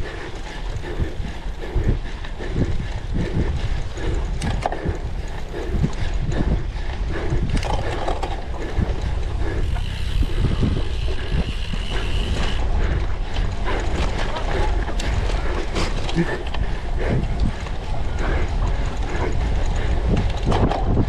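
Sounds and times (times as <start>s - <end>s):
bike chain and drivetrain clatter: 0.0s - 21.0s
wind on microphone: 0.0s - 21.0s.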